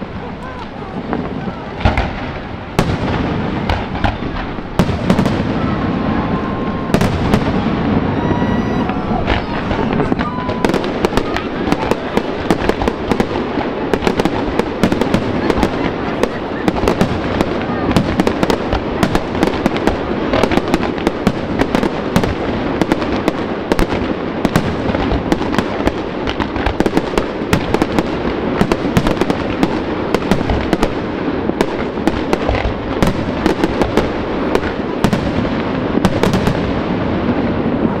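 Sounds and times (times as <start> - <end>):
fireworks bursting: 0.0 - 38.0.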